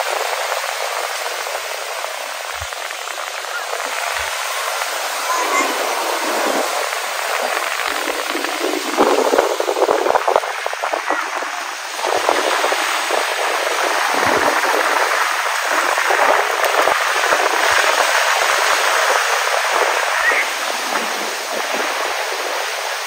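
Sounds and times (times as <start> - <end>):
small waves breaking on sand: 0.0 - 23.0.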